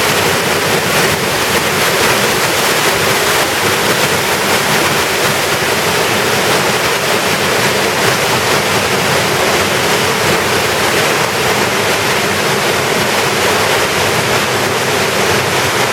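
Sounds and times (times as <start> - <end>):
waterfall rushing into pool: 0.0 - 15.9.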